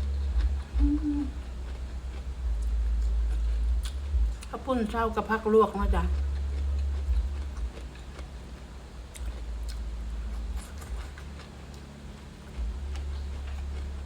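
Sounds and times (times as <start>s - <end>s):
person chewing: 0.0s - 4.5s, 6.0s - 14.0s
low rumble: 0.0s - 14.0s.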